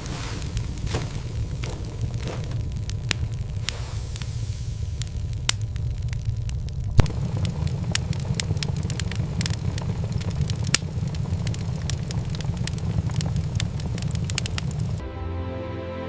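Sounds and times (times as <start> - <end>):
fire crackling and popping: 0.0 - 15.0
low rumble: 0.0 - 15.0.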